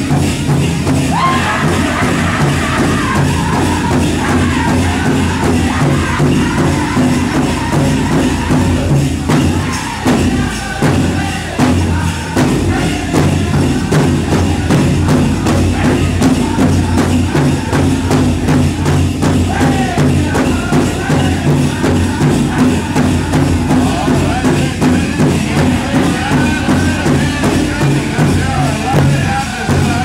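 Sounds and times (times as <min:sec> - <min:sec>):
big drum beating: 0:00.0 - 0:30.0
group singing: 0:00.0 - 0:30.0
jingling bells: 0:00.0 - 0:30.0.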